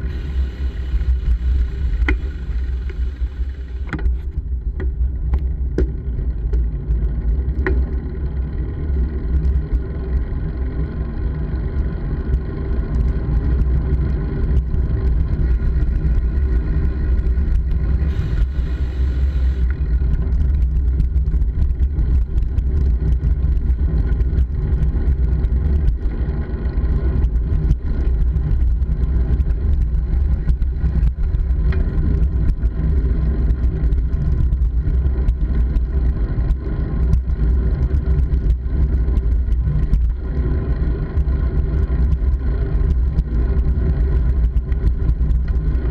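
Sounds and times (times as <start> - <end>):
road noise from moving bike: 0.0 - 45.9
wind rumble on microphone: 0.0 - 45.9.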